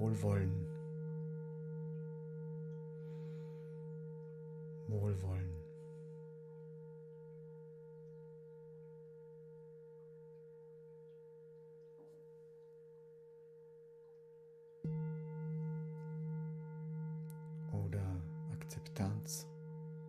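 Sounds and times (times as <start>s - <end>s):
singing bowl struck: 0.0s - 12.1s, 14.8s - 20.0s
singing bowl ringing: 0.0s - 20.0s.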